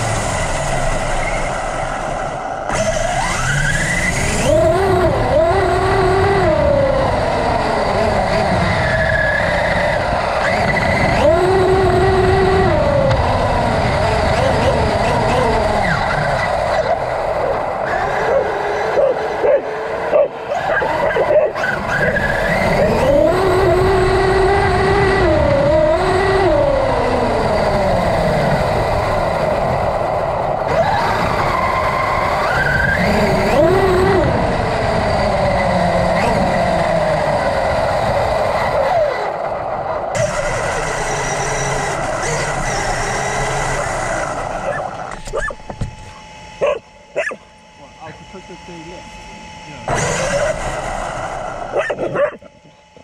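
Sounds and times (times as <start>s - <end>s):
rumble of tyres on grass: 0.0s - 47.4s
electric motor whine: 0.0s - 53.0s.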